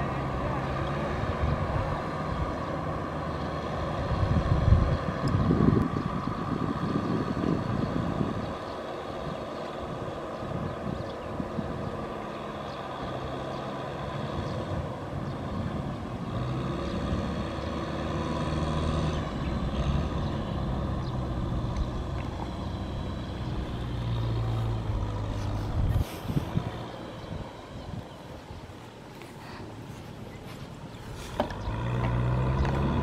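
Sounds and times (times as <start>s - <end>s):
tractor engine straining: 0.0s - 33.0s.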